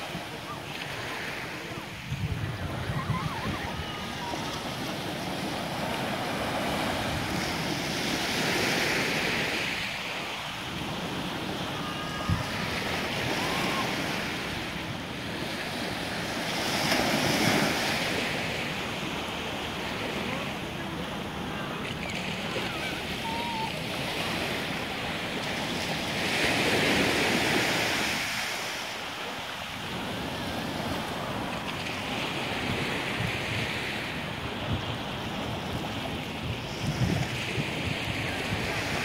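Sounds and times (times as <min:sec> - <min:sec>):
small waves breaking on beach: 0:00.0 - 0:39.0.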